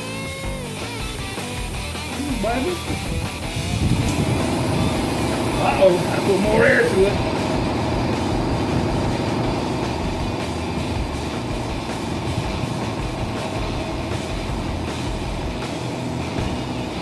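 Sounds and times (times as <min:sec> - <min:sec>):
air compressor running: 0:00.0 - 0:17.0
air filling a tire: 0:00.4 - 0:17.0.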